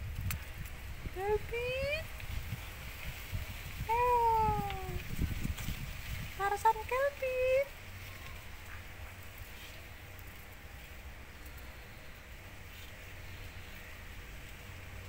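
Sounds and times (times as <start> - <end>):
light hiss: 0.0 - 15.0.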